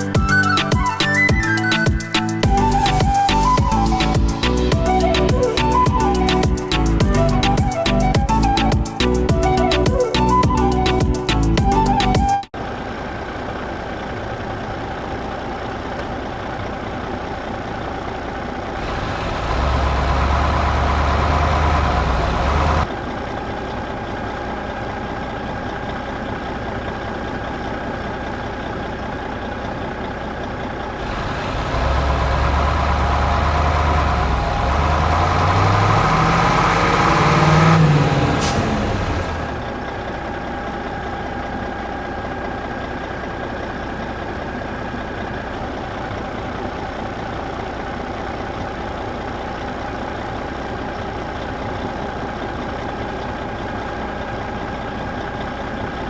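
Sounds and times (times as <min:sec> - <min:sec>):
truck or tractor engine: 0:00.0 - 0:56.0.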